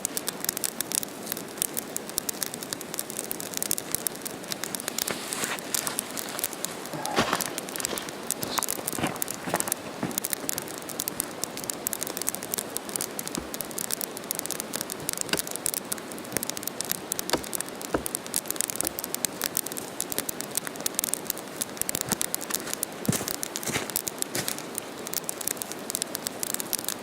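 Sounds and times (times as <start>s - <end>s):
fire of leaves crackling: 0.0s - 27.0s.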